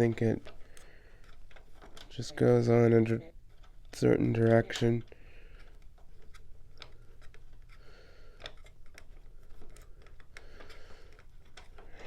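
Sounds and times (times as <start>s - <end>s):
faint clicks and taps of parts: 0.0s - 2.2s, 3.5s - 12.0s.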